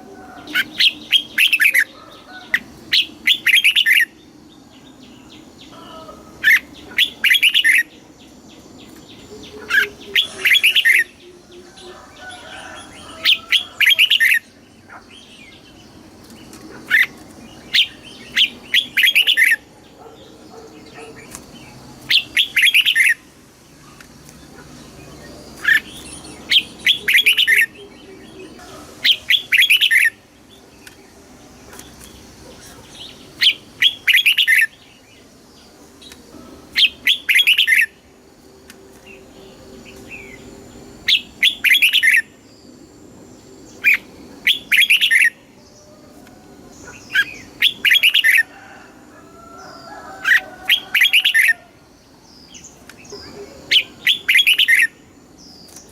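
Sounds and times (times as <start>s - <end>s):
bird chattering song: 0.0s - 38.1s, 39.0s - 46.0s, 46.6s - 48.5s, 49.6s - 55.9s.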